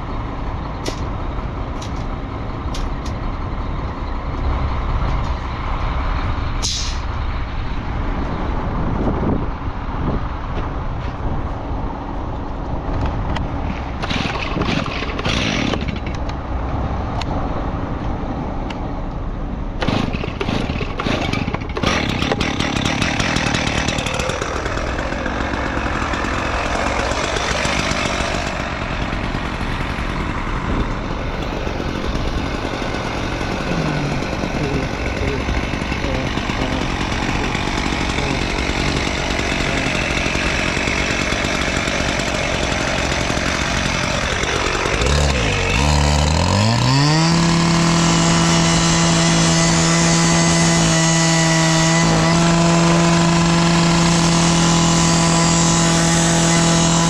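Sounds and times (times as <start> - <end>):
road noise: 0.0 - 57.0
truck engine rumbling: 0.0 - 57.0.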